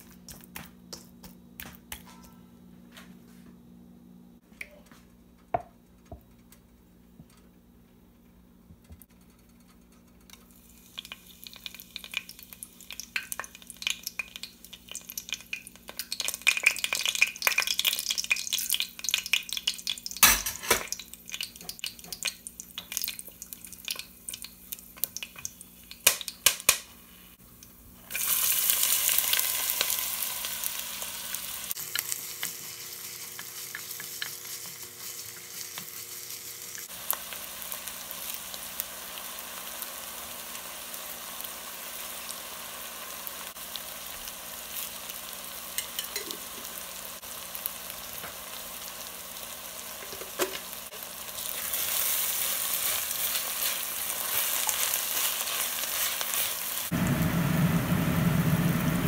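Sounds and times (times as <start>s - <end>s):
onions sizzling in oil: 10.4s - 59.0s.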